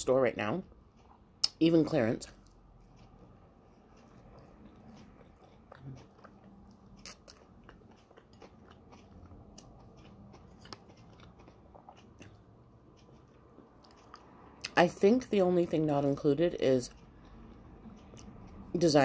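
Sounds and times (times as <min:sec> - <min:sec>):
faint chewing mouth sounds: 0:00.6 - 0:01.6, 0:02.2 - 0:19.0.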